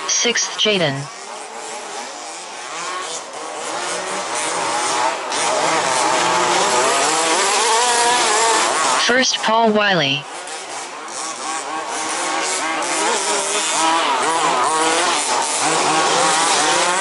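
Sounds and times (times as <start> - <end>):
rc buggy engines buzzing and revving: 0.0 - 17.0.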